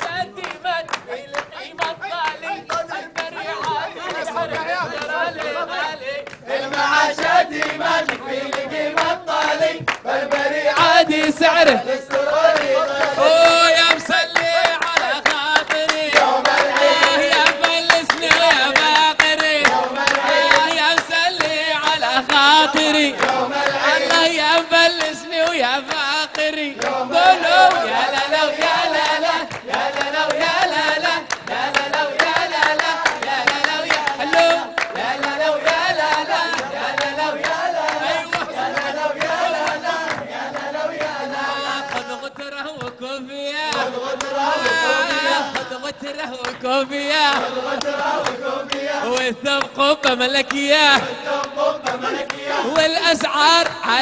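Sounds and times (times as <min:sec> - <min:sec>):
men singing in chorus: 0:00.0 - 0:54.0
rhythmic hand-clapping: 0:00.0 - 0:54.0.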